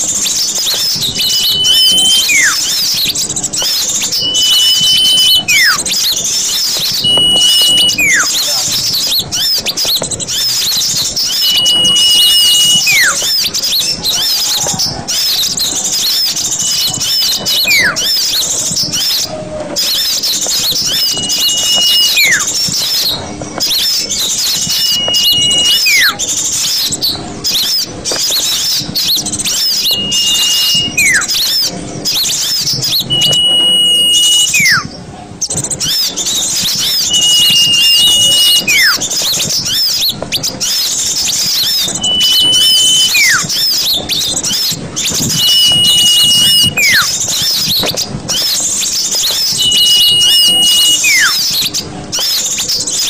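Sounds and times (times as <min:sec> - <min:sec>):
small birds chattering: 0:00.0 - 0:53.0
falling whistle: 0:00.1 - 0:34.9, 0:35.8 - 0:53.0.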